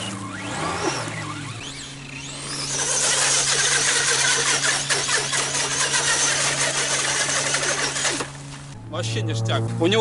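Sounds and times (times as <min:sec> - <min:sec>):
water spraying from wheels: 0:00.0 - 0:08.8
electric motor whine: 0:00.0 - 0:10.0.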